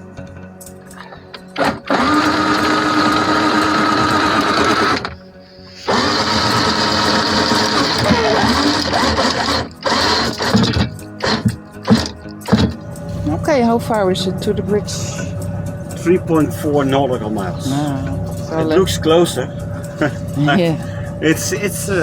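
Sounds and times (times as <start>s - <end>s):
anchor windlass motor whirring: 1.3s - 5.2s, 5.8s - 22.0s.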